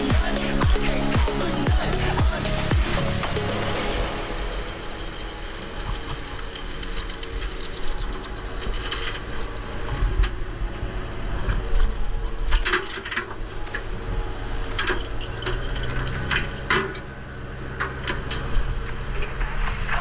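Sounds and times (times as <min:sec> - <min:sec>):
metal clanks and rattles: 0:00.0 - 0:10.8, 0:11.4 - 0:20.0
boat engine rumble: 0:00.0 - 0:20.0.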